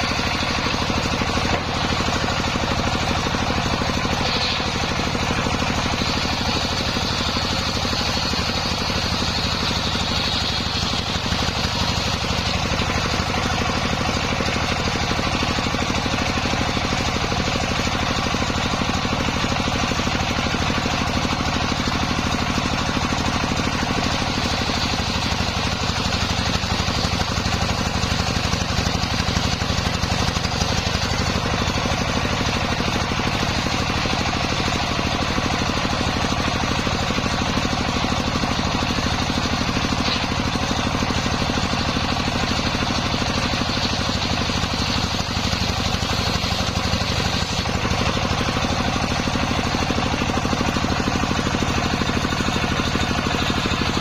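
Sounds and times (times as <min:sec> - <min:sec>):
circular saw cutting timber: 0:00.0 - 0:54.0
saw blade whine: 0:00.0 - 0:54.0.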